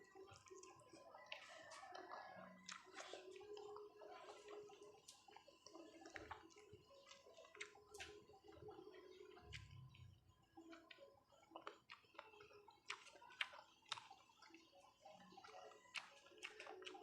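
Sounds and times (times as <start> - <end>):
wet chewing and mouth sounds: 0.0 - 17.0.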